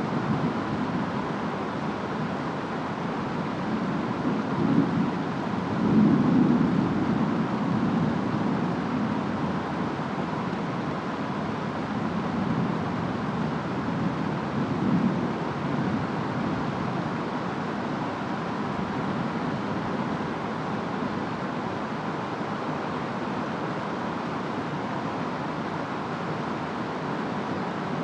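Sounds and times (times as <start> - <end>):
rainstorm: 0.0 - 28.0
wind: 0.0 - 28.0.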